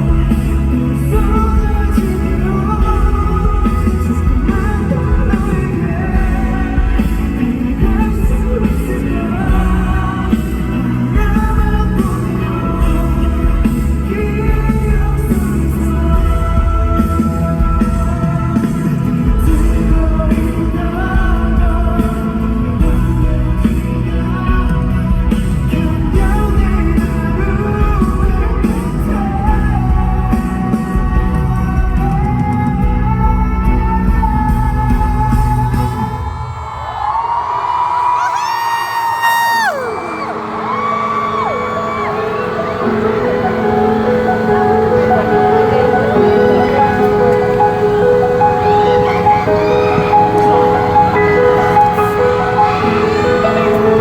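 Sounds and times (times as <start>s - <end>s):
man singing live: 0.0s - 36.5s, 38.2s - 54.0s
loud bass-heavy band backing: 0.0s - 54.0s.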